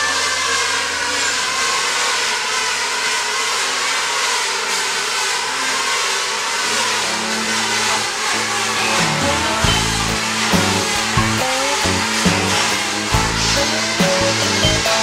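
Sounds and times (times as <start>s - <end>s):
power tool milling hardwood: 0.0s - 15.0s.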